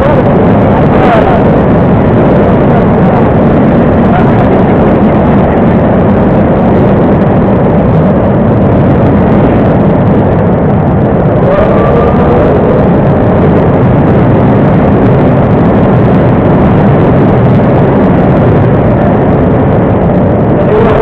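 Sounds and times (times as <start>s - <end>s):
wind rush: 0.0s - 21.0s.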